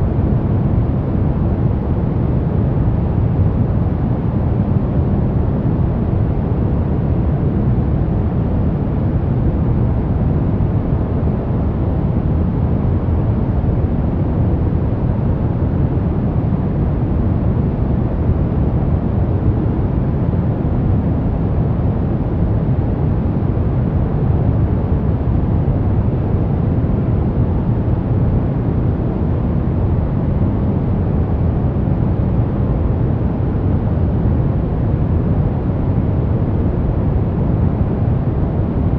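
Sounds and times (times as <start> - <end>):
deep rumbly white noise: 0.0 - 38.9.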